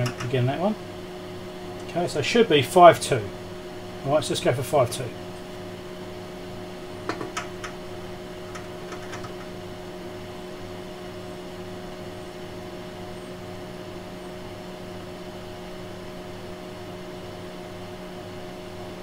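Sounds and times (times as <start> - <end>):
equipment hum and fan noise: 0.0 - 19.0.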